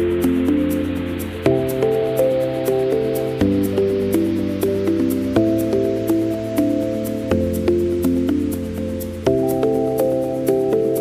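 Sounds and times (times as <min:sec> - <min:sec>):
background music with ticking beat: 0:00.0 - 0:11.0.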